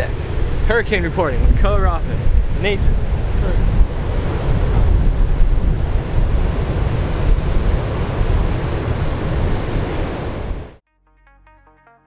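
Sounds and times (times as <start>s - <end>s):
rough surf: 0.0s - 10.8s
storm wind buffeting microphone: 0.0s - 10.8s.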